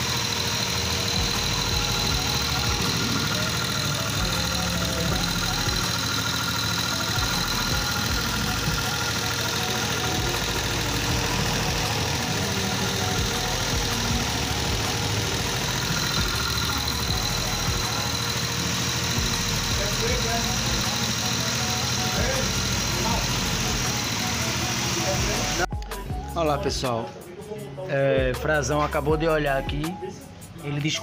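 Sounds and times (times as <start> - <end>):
small engine idling: 0.0 - 26.1.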